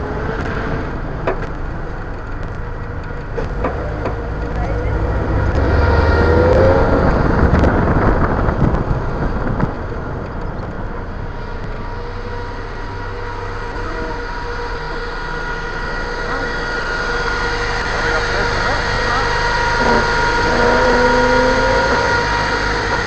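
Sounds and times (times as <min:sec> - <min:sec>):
car engine idling: 0:00.9 - 0:23.0.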